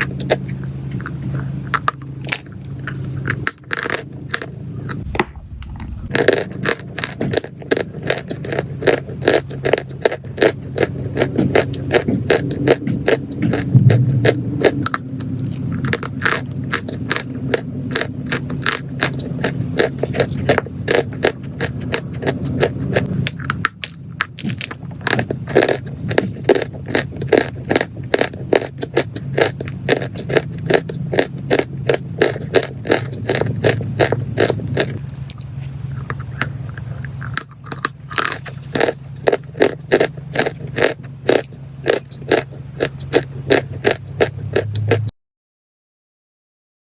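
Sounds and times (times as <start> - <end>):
low hum: 0.0 - 45.1
chalk and clay crunching: 6.4 - 44.5.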